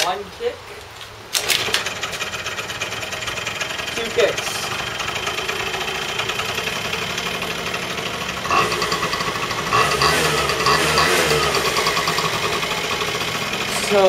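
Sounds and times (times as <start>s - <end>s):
scooter engine running: 1.4s - 14.0s.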